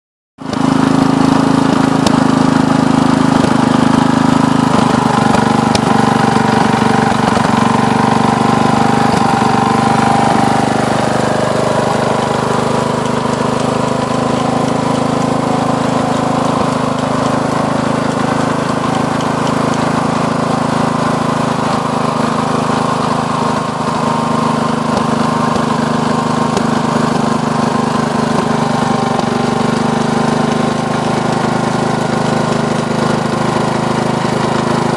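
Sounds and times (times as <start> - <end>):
small engine running: 0.4 - 34.9.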